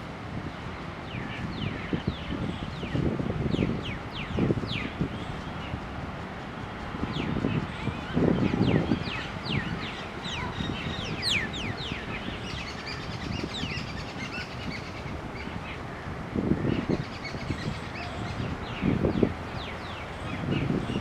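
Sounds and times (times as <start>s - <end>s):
small birds chirping: 0.5s - 21.0s.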